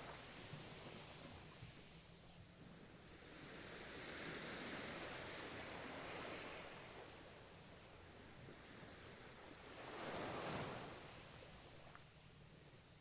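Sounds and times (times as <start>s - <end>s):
ocean waves washing ashore: 0.0s - 12.8s.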